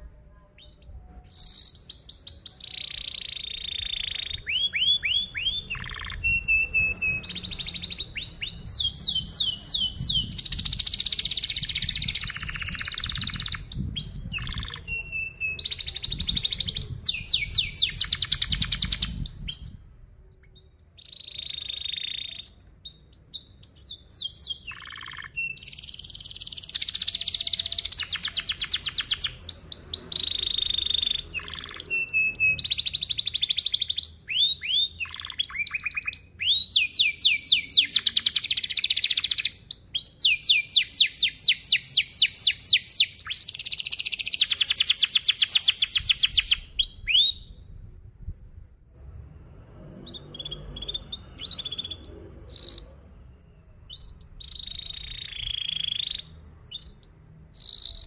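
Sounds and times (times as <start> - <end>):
canary singing: 0.0 - 47.7, 50.0 - 58.0.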